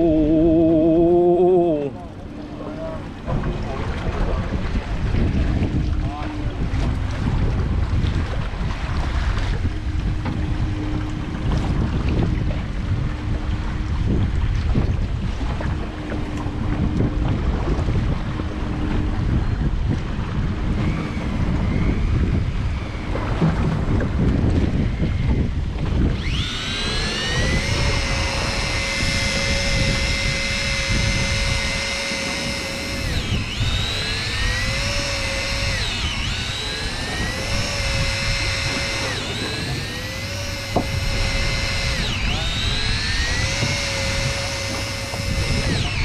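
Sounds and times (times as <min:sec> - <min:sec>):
fishing reel motor whining: 0:00.0 - 0:03.3, 0:04.5 - 0:46.0
boat noise rumble: 0:00.0 - 0:46.0
wind: 0:00.0 - 0:46.0.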